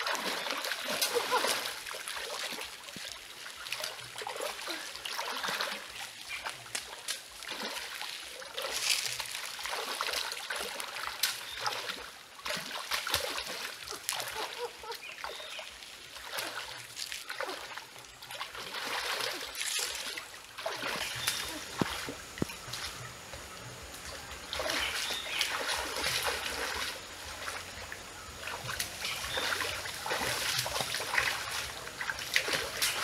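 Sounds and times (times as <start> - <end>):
feet wading through stream: 0.0 - 33.0
stream trickling: 0.0 - 33.0
water splashing: 0.0 - 33.0.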